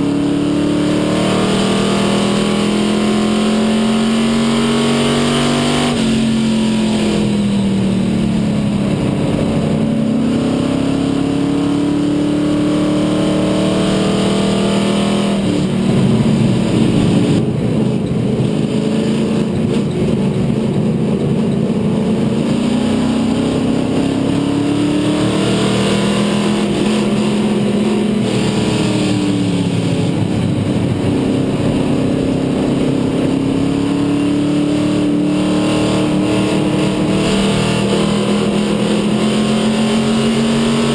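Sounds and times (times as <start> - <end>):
race car engine at speed: 0.0 - 40.9.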